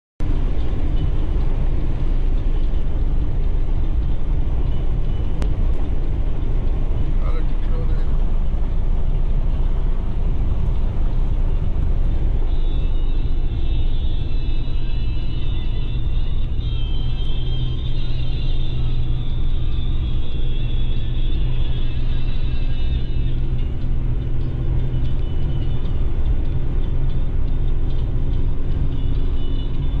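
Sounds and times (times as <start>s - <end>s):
car engine and road noise: 0.2s - 30.0s.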